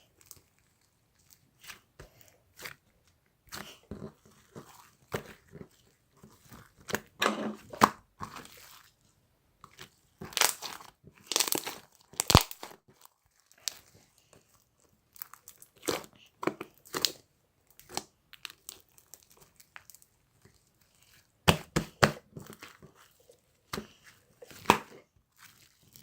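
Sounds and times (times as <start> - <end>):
crinkling and crunching: 0.0 - 26.0.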